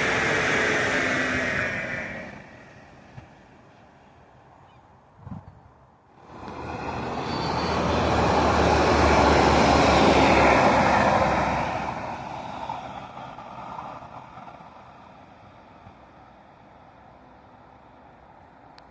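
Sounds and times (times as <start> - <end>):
wheel-on-rail noise: 0.0 - 4.6, 6.1 - 18.9
train engine hum: 0.0 - 18.9.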